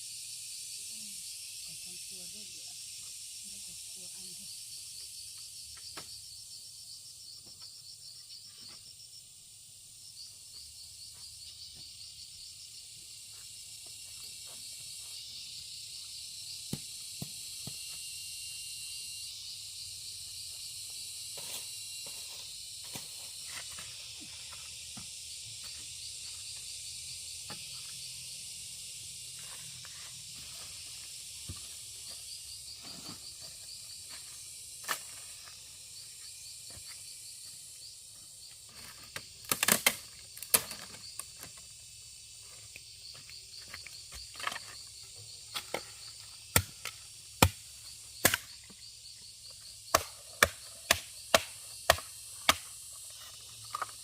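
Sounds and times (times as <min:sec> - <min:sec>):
crickets chirping: 0:00.0 - 0:54.0
high hiss of insects: 0:00.0 - 0:54.0.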